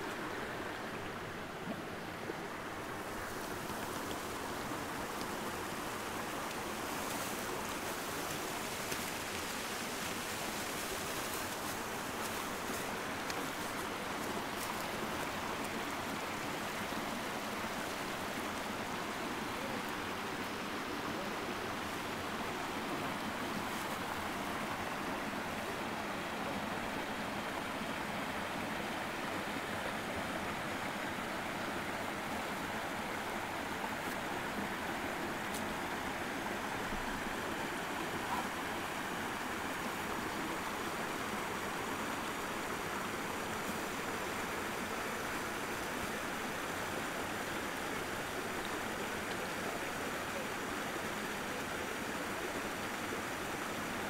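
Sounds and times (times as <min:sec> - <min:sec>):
creek water rushing over boulders: 0:00.0 - 0:54.0.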